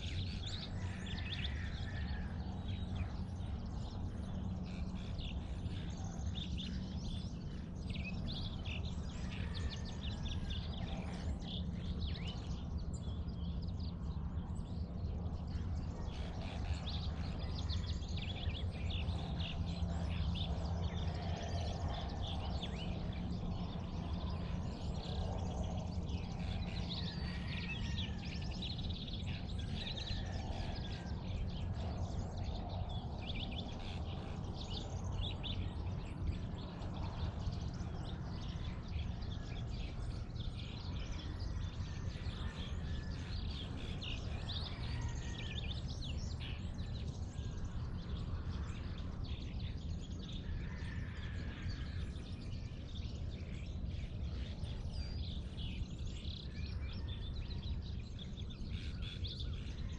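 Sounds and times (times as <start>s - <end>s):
low background rumble: 0.0s - 59.9s.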